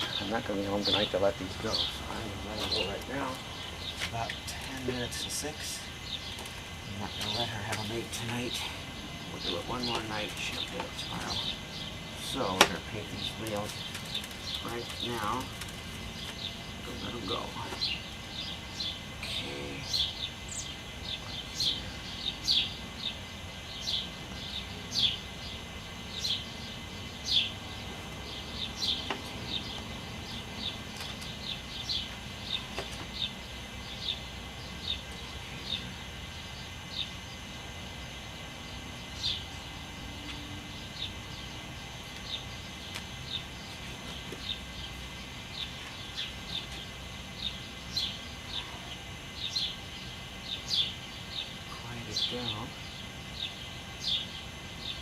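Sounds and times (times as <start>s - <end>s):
songbirds chirping: 0.0s - 55.0s
steady low hum: 0.0s - 55.0s.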